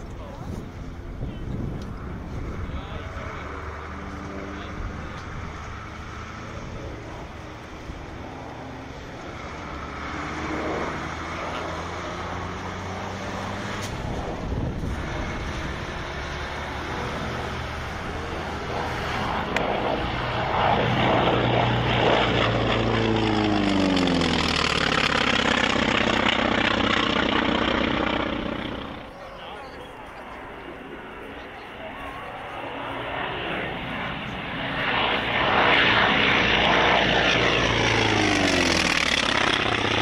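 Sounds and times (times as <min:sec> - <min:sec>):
propeller plane flying by: 0:00.0 - 0:40.0.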